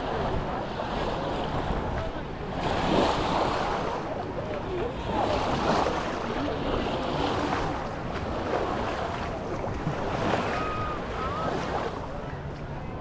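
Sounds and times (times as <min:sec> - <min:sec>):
distant voices: 0:00.0 - 0:13.0
sea waves washing ashore: 0:00.0 - 0:13.0.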